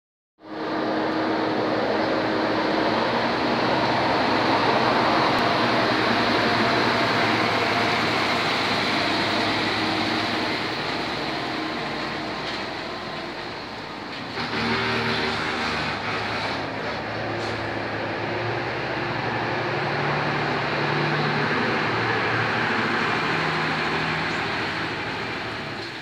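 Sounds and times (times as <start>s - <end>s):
truck engine and running gear: 0.4s - 26.0s.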